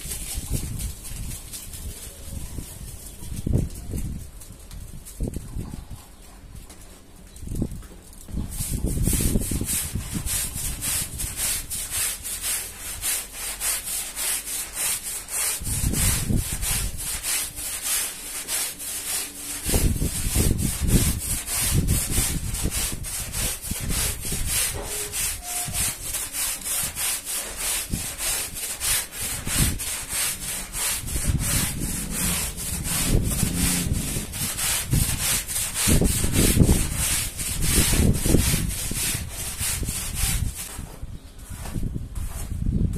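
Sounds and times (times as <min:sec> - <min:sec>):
brush scrubbing wet rug: 0:00.0 - 0:03.0, 0:08.4 - 0:40.8.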